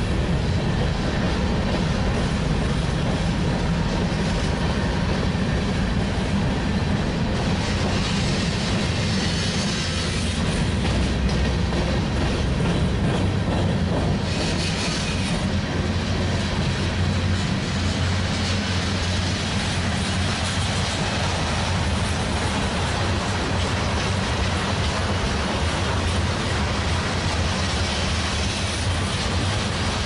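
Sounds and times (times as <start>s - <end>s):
steel wheels running on rails: 0.0s - 30.0s.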